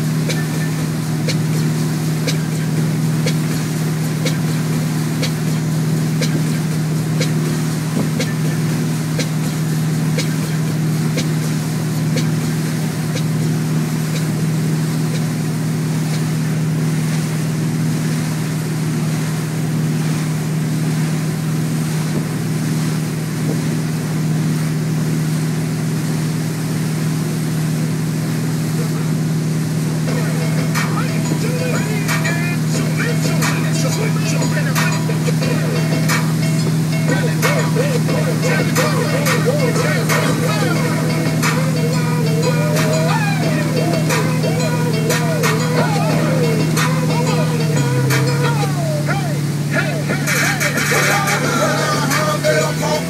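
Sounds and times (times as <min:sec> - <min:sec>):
boat engine humming: 0:00.0 - 0:53.0
wake churning: 0:00.0 - 0:53.0.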